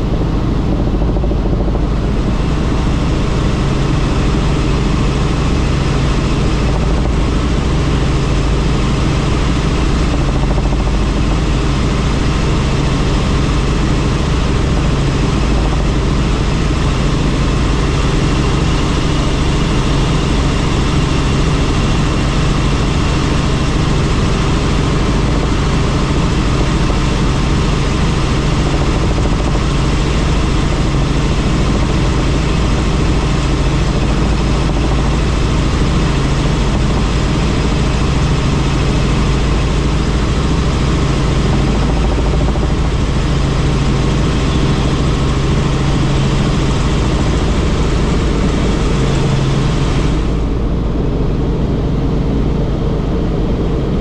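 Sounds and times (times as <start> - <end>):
helicopter turbine and rotor drone: 0.0 - 54.0.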